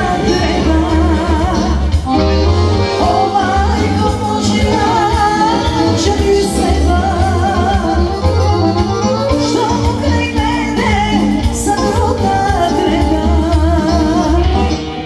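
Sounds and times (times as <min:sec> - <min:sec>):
rhythmic bass beat: 0:00.0 - 0:14.7
live band over loudspeakers: 0:00.0 - 0:15.0
woman singing into microphone: 0:00.0 - 0:15.0.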